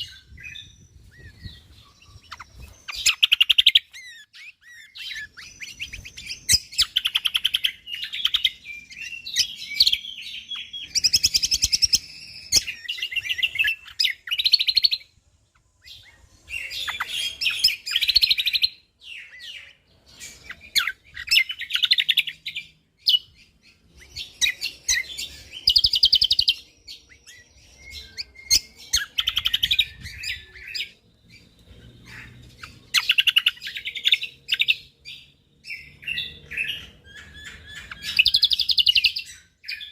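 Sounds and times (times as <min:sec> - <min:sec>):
songbird trilling and chattering: 0:00.0 - 0:39.9.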